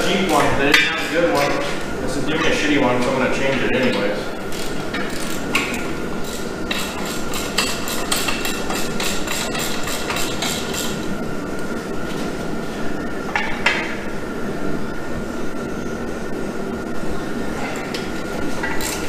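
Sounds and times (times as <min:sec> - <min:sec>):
steady mechanical hiss: 0:00.0 - 0:19.0.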